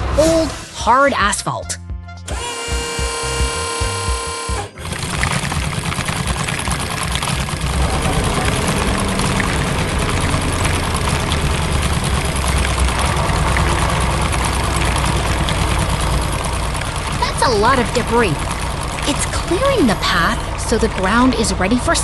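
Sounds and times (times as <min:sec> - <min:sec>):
excavator engine rumbling: 0:02.2 - 0:22.0.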